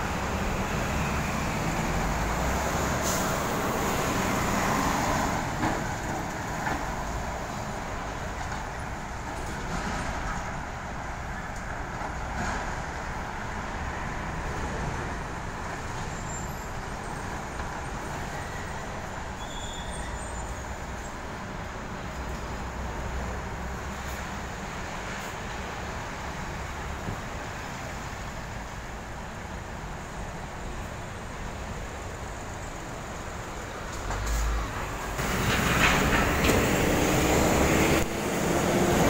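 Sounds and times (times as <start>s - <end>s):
traffic rumble: 0.0s - 39.0s
trucks driving past: 0.0s - 39.0s.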